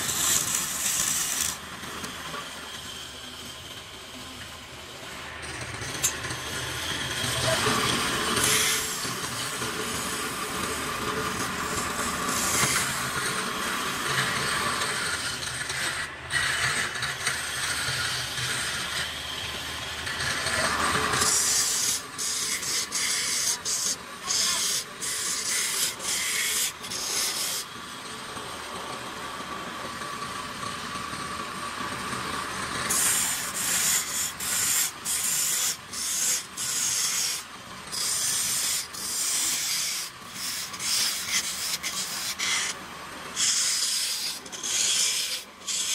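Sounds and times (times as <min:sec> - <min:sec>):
lathe tool cutting wood: 0:00.0 - 0:45.9.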